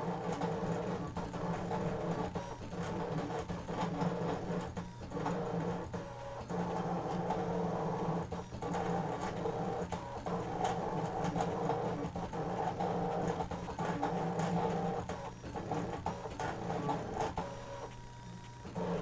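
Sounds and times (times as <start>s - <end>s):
cutting machine motors whirring: 0.0s - 19.0s.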